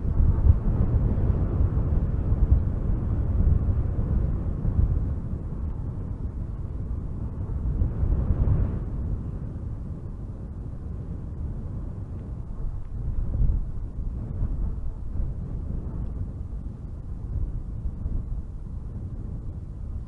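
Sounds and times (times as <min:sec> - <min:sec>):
strong wind through trees: 0:00.0 - 0:20.0.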